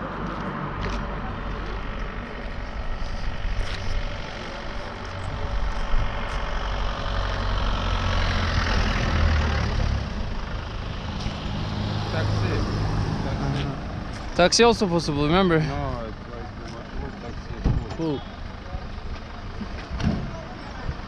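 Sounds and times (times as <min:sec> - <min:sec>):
passing traffic: 0:00.0 - 0:21.0
vehicle engine rumbling: 0:00.0 - 0:21.0.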